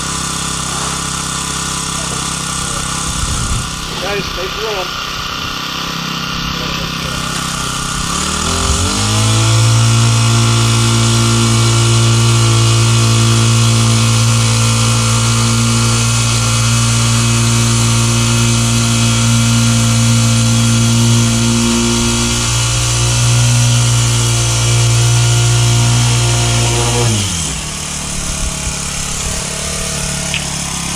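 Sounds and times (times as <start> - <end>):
small gasoline engine revving: 0.0 - 30.9.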